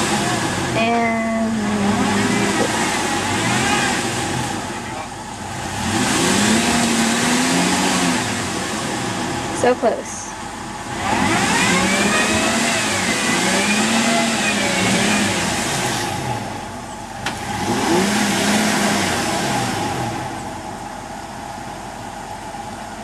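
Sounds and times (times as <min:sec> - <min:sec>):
pickup engine revving: 0:00.0 - 0:21.0.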